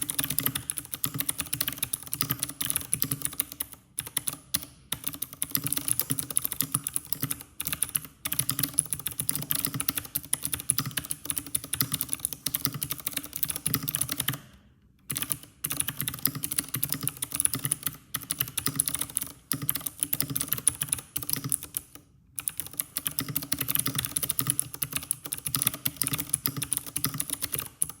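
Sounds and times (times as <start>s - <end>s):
fast mechanical keyboard typing: 0.0s - 14.4s, 15.1s - 28.0s.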